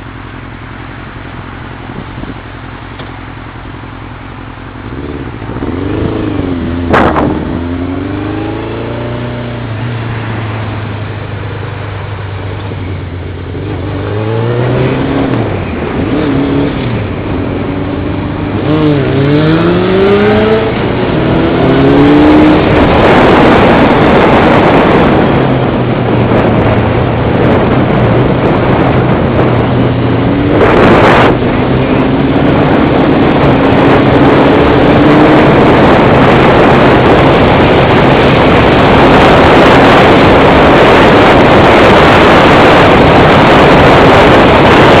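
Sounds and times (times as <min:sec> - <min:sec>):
wind rush on microphone: 0:00.0 - 0:45.0
motorcycle engine revving: 0:01.8 - 0:45.0.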